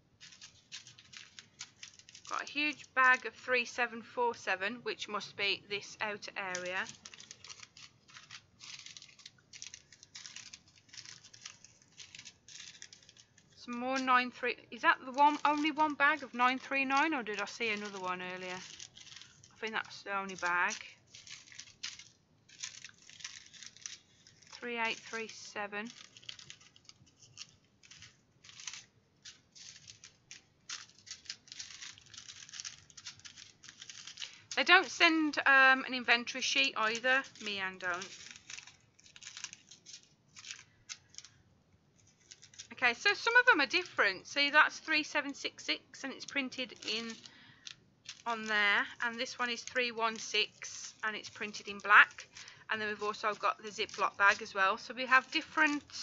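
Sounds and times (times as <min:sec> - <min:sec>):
plastic bags rustling and crinkling: 0:00.0 - 0:56.0.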